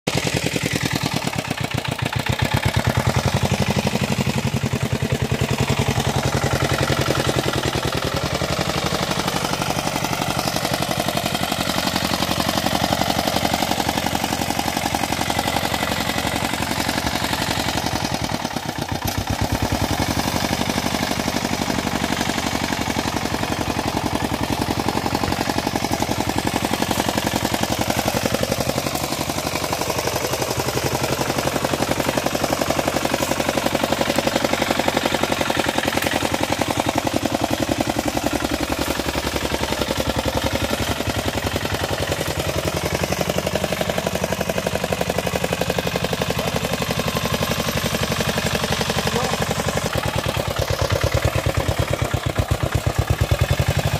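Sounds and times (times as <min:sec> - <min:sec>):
small tractor engine running: 0:00.0 - 0:53.9.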